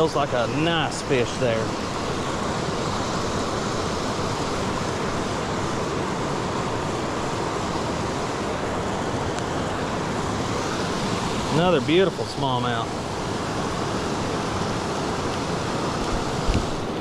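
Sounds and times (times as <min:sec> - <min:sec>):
creek water over rocks: 0:00.0 - 0:17.0.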